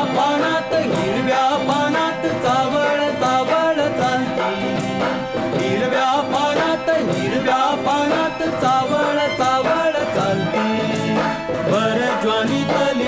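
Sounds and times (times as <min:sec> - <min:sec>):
folk song melody instruments: 0:00.0 - 0:13.0
steady drum rhythm: 0:00.0 - 0:13.0.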